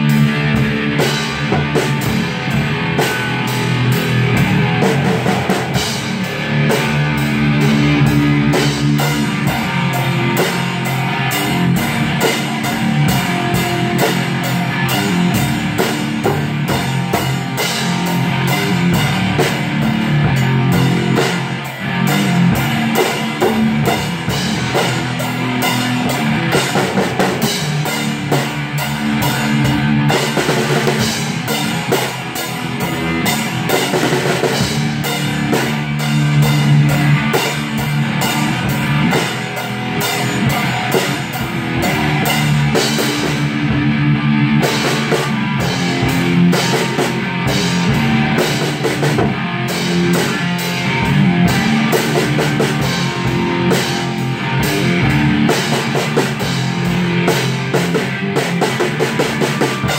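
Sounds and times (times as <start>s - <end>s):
drum kit steady beat: 0.0s - 59.9s
rock guitar: 0.0s - 59.9s.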